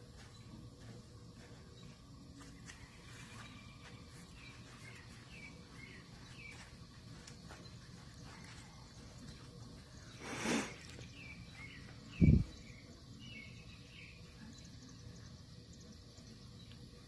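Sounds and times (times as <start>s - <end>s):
outdoor ambience: 0.0s - 17.0s
faint bird chirps: 0.1s - 17.0s.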